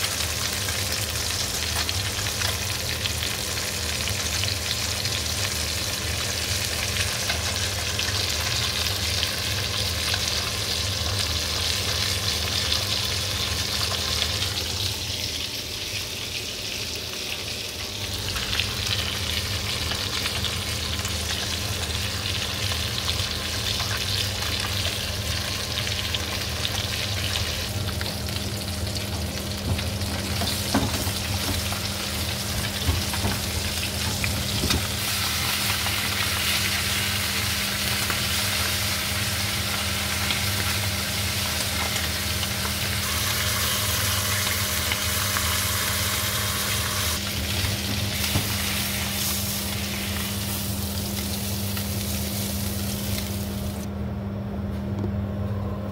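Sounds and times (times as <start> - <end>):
fish sizzling in a frying pan: 0.0 - 53.9.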